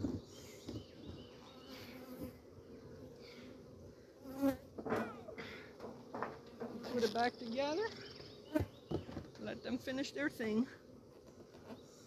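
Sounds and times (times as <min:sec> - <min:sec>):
bee buzzing close by: 0:00.0 - 0:12.0
bees humming around hive: 0:00.0 - 0:12.0.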